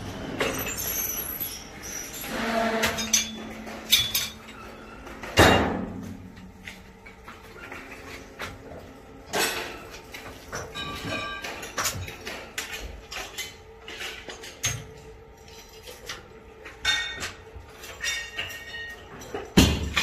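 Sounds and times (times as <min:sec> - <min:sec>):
metallic clanks and knocks: 0:00.0 - 0:20.0.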